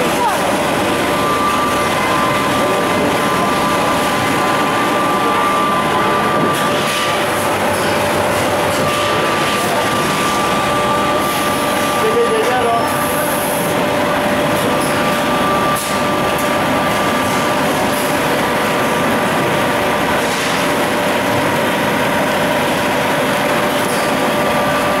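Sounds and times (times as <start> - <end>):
packaging machine running with whine: 0.0 - 25.0.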